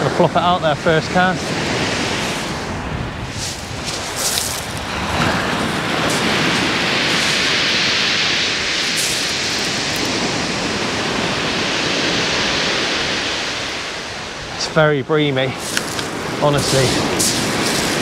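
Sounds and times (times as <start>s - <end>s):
surf washing over shingle: 0.0s - 18.0s.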